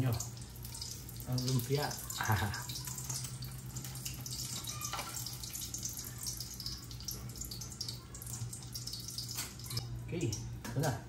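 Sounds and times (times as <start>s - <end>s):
food sizzling in oil: 0.0s - 9.8s.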